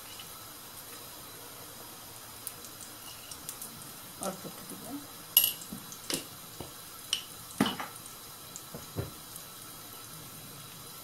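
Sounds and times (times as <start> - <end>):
meat patties sizzling in a pan: 0.0 - 11.0.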